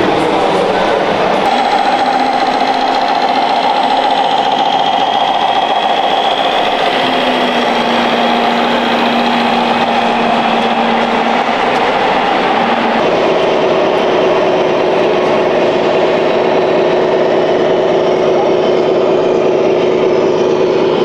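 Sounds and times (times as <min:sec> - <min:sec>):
hall noise: 0:00.0 - 0:21.0
simulated truck engine from small speaker: 0:00.0 - 0:21.0.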